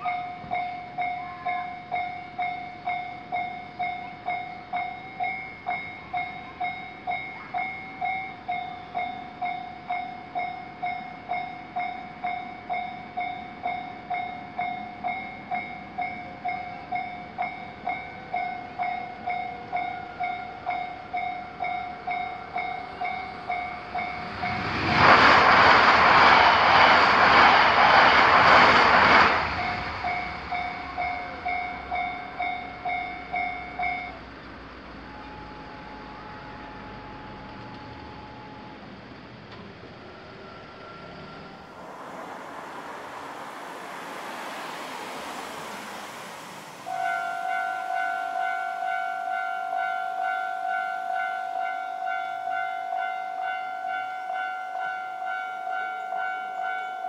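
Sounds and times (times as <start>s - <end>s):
train passing with wheel clatter: 0.0s - 57.0s.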